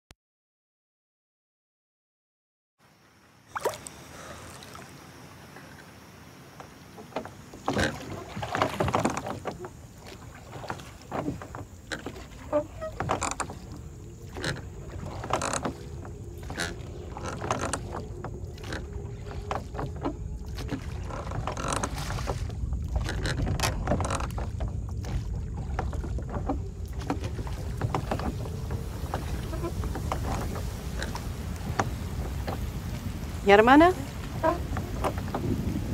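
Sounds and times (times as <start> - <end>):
steady outdoor hiss: 2.8 - 35.9
oars dipping and splashing: 3.4 - 35.9.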